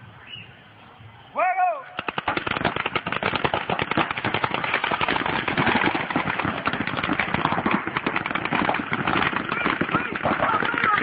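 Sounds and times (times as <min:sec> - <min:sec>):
paintball markers firing pops: 0:02.0 - 0:11.0.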